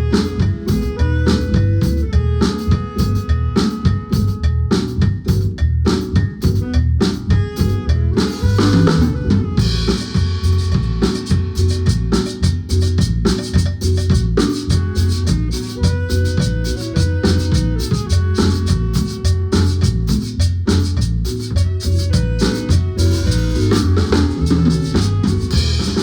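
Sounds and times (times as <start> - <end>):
marimba band playing: 0.0 - 26.0
snare and bass drum beat: 0.0 - 26.0.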